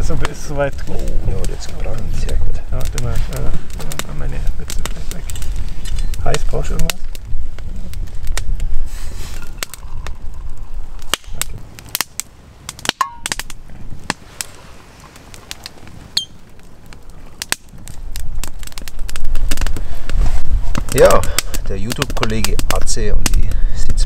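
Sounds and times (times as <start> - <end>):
wind rumble on microphone: 0.0 - 24.0
wood crackling and popping: 0.0 - 24.0.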